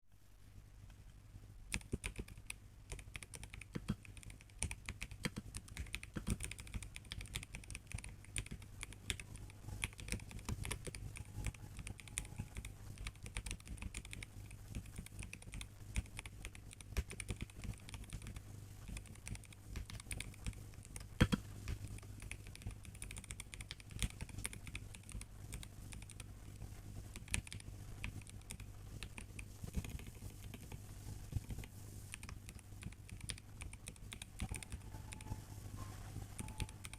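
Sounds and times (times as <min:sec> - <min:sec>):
typing on mechanical keyboard: 0:01.7 - 0:26.3, 0:27.1 - 0:30.8, 0:31.4 - 0:35.4, 0:36.4 - 0:36.9.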